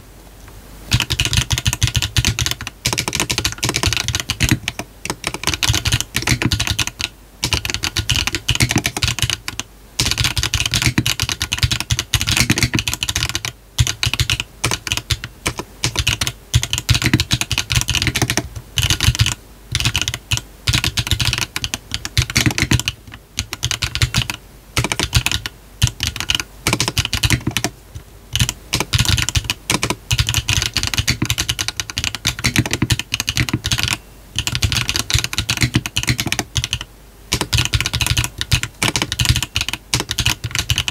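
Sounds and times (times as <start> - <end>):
mechanical keyboard typing: 0.9 - 40.9.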